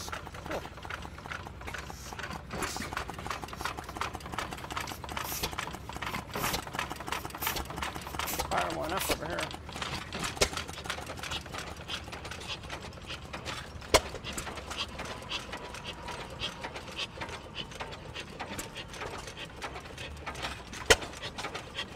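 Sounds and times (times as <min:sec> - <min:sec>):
old gas engines clattering: 0:00.0 - 0:21.9.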